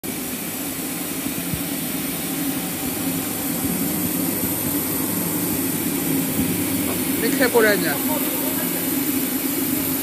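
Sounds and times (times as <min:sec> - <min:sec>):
wrapping machine humming: 0:00.1 - 0:10.0.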